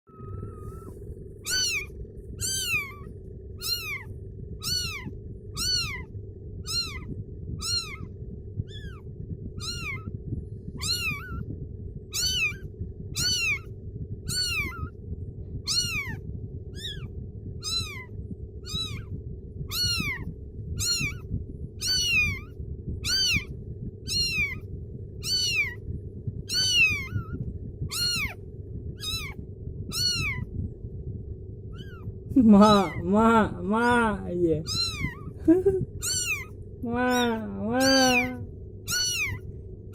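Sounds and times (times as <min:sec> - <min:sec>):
steady low hum: 0:00.0 - 0:39.9
kitten meowing: 0:00.1 - 0:09.0, 0:09.6 - 0:10.1, 0:10.8 - 0:11.5, 0:12.1 - 0:13.7, 0:14.3 - 0:15.0, 0:15.6 - 0:16.2, 0:16.8 - 0:19.1, 0:19.7 - 0:25.8, 0:26.5 - 0:28.4, 0:29.0 - 0:30.5, 0:31.7 - 0:35.4, 0:36.0 - 0:39.5.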